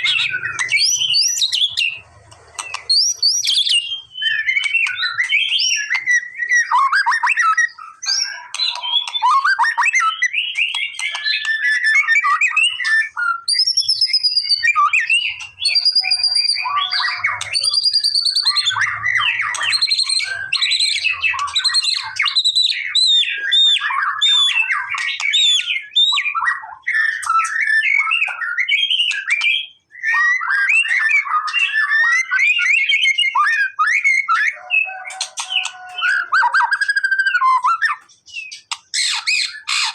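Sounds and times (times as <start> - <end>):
songbird singing varied whistles: 2.6 - 39.9.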